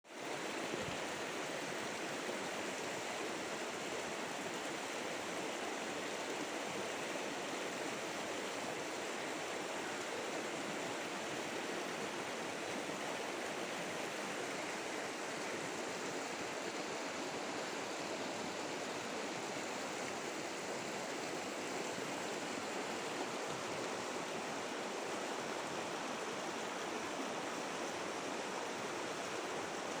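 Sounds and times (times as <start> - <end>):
water rushing: 0.2 - 30.0.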